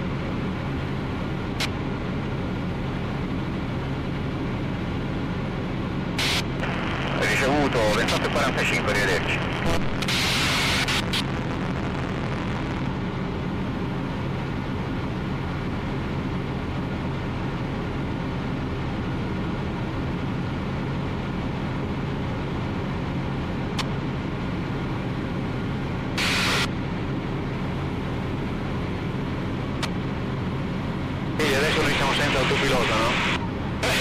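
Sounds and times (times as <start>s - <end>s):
light aircraft engine droning: 0.0s - 34.0s.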